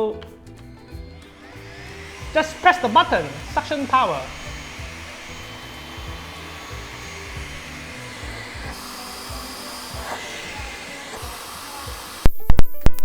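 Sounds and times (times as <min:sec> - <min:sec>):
stick vacuum cleaner running: 0:00.5 - 0:13.0.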